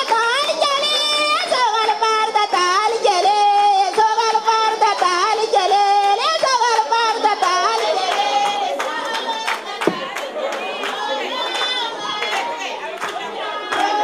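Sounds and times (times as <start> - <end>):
women singing in high voices: 0.0 - 14.0.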